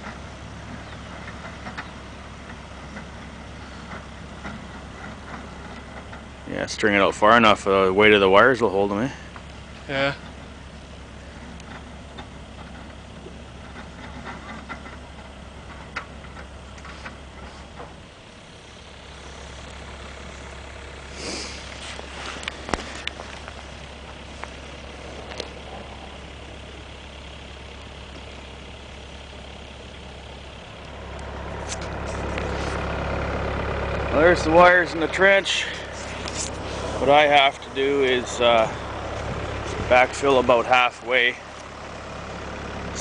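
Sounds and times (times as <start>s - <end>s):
excavator engine idling: 0.0s - 43.0s.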